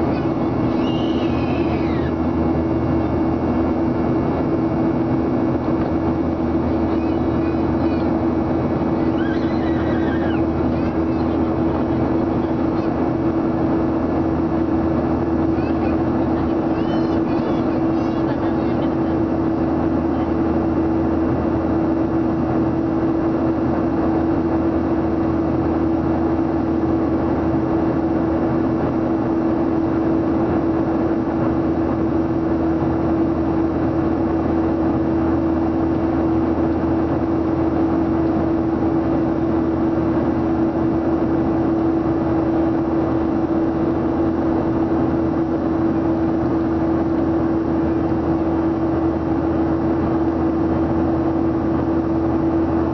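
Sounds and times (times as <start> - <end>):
constant low hum: 0.0 - 52.9
jet engine drone and air rush: 0.0 - 52.9.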